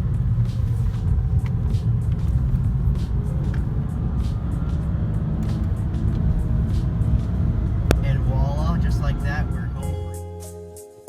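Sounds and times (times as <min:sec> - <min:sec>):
car engine rumble: 0:00.0 - 0:10.2
road noise: 0:00.0 - 0:10.2.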